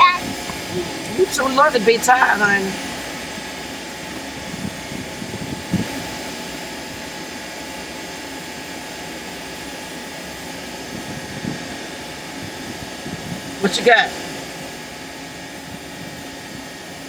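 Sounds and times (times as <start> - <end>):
fan blower rushing hum: 0.0 - 17.0.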